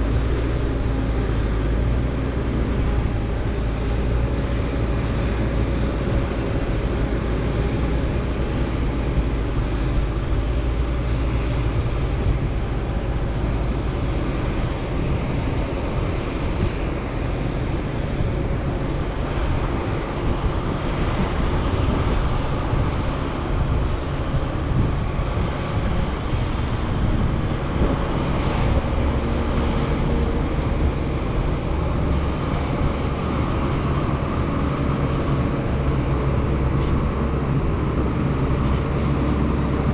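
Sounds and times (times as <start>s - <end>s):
diesel farm machinery engine drone: 0.0s - 39.9s.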